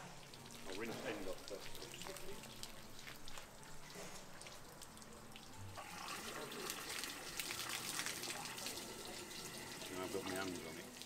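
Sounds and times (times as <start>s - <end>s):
water rushing from hose into tank: 0.0s - 11.0s.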